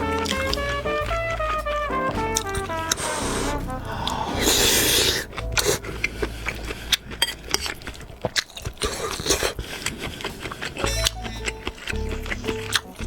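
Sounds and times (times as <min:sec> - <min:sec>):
wet chewing of noodles: 0:00.0 - 0:13.0.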